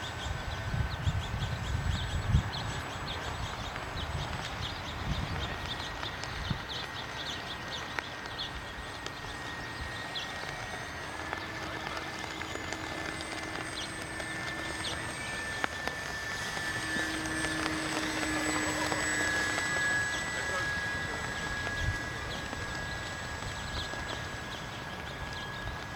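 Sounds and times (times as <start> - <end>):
model airplane motor whine: 0.0 - 25.9.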